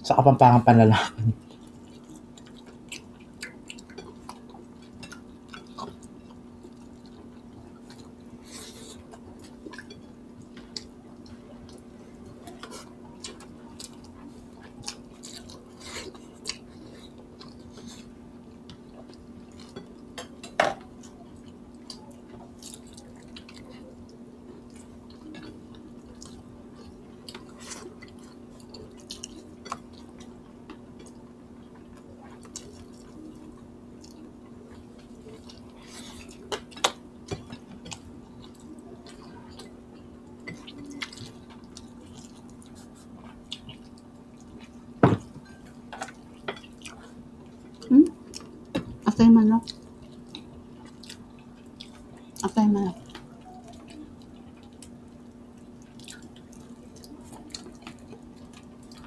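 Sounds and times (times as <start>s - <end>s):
steady low hum: 0.0s - 59.0s
person chewing food: 1.0s - 49.0s, 49.6s - 59.0s.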